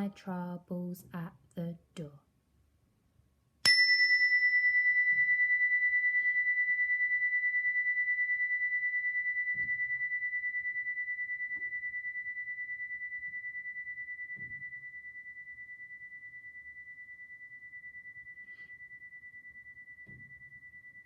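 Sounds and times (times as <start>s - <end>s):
chime ringing: 3.7s - 21.0s.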